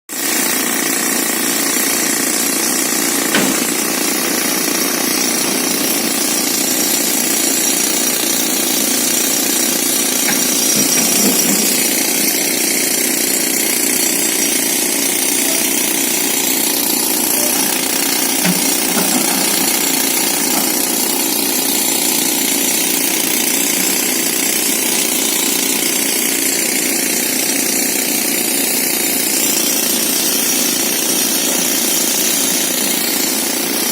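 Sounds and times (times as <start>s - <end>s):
rock drill hammering: 0.2s - 33.9s.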